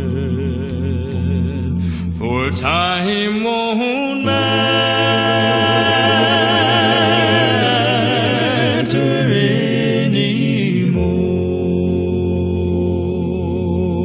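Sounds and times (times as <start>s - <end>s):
a cappella quartet singing harmony: 0.0s - 14.0s.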